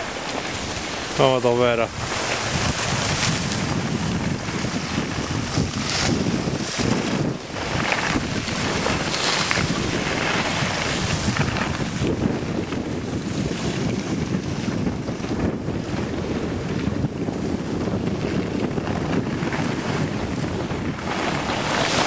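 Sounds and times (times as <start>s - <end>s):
skis sliding over snow: 0.0s - 22.0s
wind buffeting microphone: 0.0s - 22.0s.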